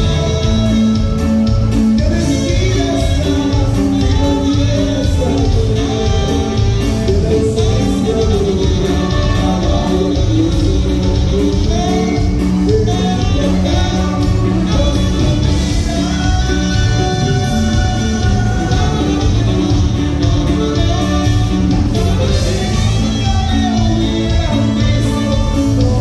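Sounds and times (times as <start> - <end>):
latin dance band playing: 0.0 - 26.0
person singing: 0.0 - 26.0.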